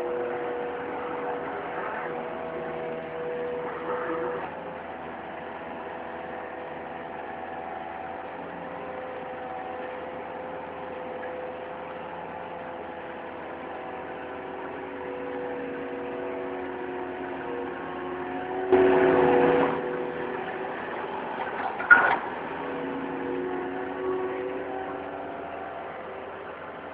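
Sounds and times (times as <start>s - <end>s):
hydraulic auger boring: 0.0s - 26.9s
loader engine running: 0.0s - 26.9s.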